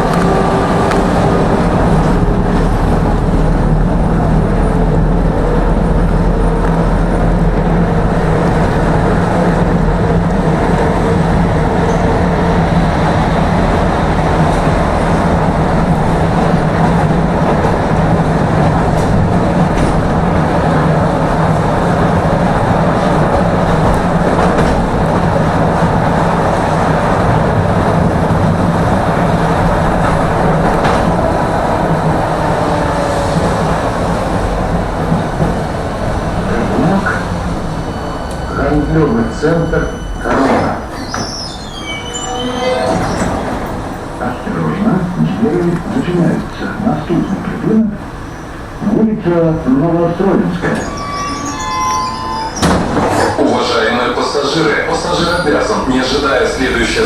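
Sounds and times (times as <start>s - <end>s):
tram wheels on rails: 0.0s - 57.0s.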